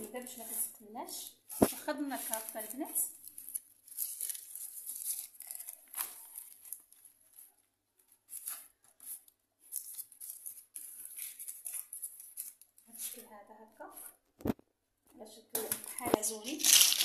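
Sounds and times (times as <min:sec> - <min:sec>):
baking paper crinkling: 0:00.0 - 0:14.6, 0:15.6 - 0:17.0.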